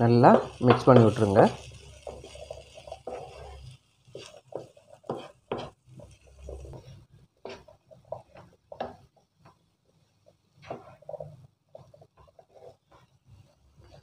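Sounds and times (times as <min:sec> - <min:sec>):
spatula scraping a frying pan: 0:00.2 - 0:09.4, 0:10.6 - 0:14.0.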